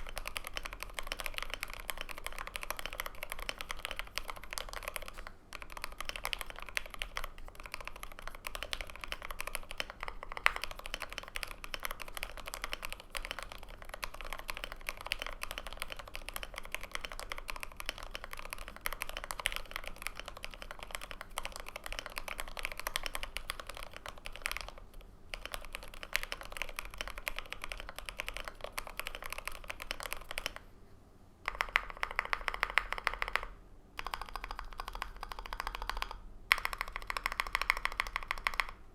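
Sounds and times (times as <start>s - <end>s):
mechanical keyboard typing: 0.0s - 30.6s, 31.4s - 38.8s.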